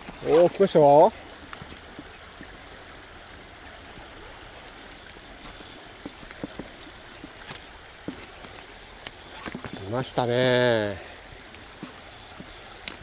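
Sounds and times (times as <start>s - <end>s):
fishing reel clicking: 0.0s - 13.0s.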